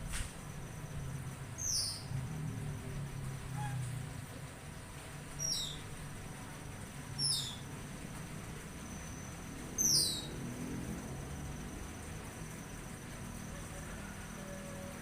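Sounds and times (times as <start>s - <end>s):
high insect trill: 0.0s - 4.2s, 4.8s - 15.0s
low hum: 0.0s - 14.4s.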